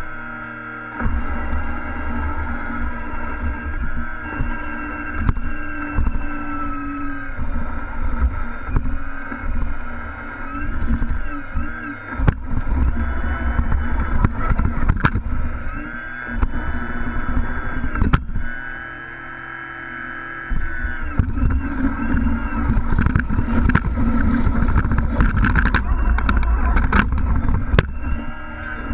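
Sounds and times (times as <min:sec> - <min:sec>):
rc truck engines revving: 0:00.0 - 0:28.9
knocks and clicks: 0:01.0 - 0:18.6, 0:20.5 - 0:28.9.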